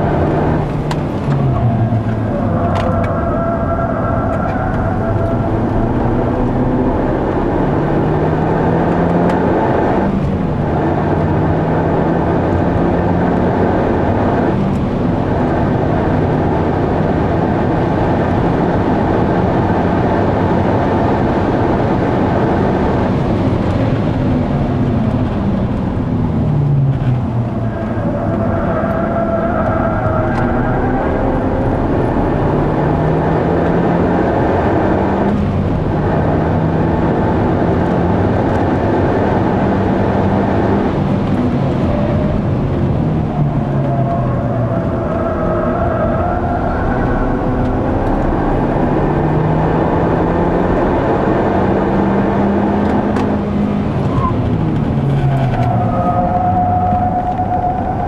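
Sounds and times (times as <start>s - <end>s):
car engine pulling hard: 0.0s - 58.0s
road and wind noise: 0.0s - 58.0s.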